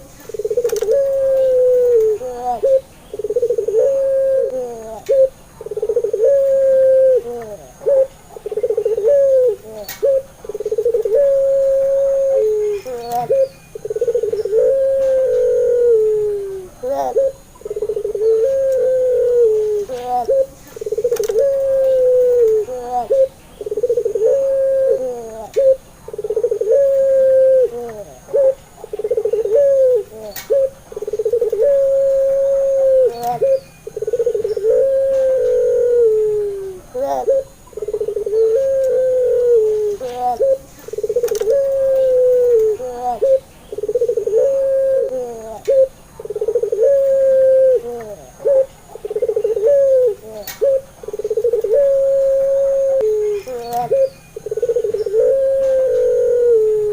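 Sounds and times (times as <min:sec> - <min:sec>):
turtle dove cooing: 0:00.0 - 0:56.9.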